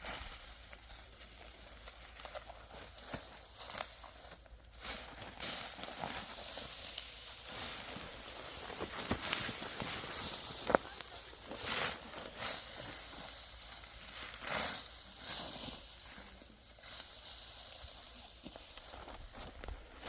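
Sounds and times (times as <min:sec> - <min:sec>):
dry wheat stalks rustling: 0:00.0 - 0:20.0.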